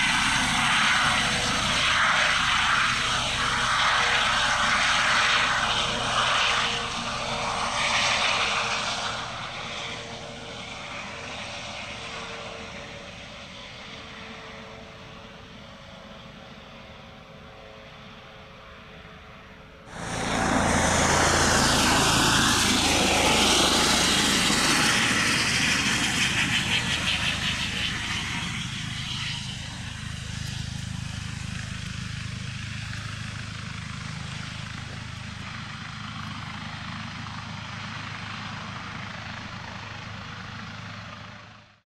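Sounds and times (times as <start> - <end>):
helicopter turbines and rotor: 0.0 - 41.8.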